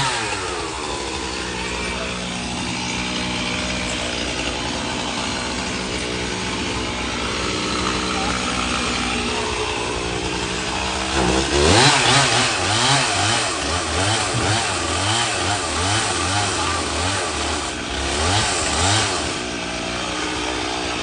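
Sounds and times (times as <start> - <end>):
engine idling and revving: 0.0 - 21.0.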